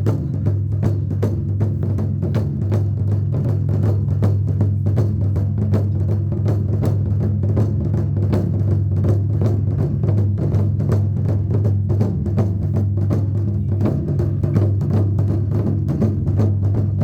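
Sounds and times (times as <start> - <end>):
rapid even drumming: 0.0 - 17.0.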